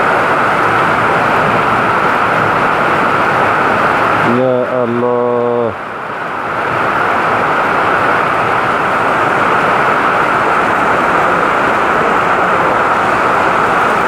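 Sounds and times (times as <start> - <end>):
heavy rain downpour: 0.0 - 14.0.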